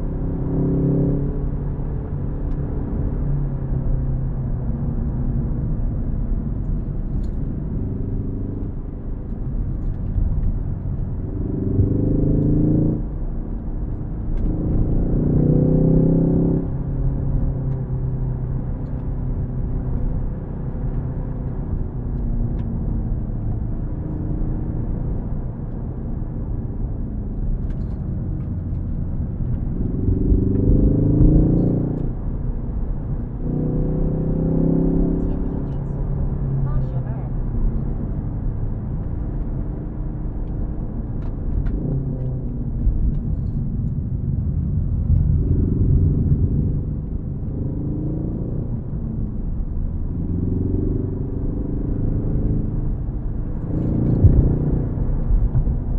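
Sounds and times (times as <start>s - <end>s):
car engine accelerating: 0.0s - 55.9s
low road rumble: 0.0s - 55.9s.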